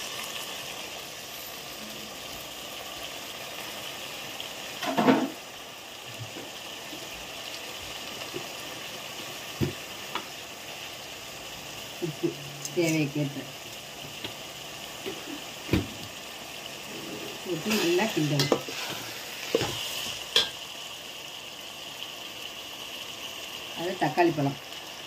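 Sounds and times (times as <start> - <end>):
meat and onions sizzling in oil: 0.0 - 25.0.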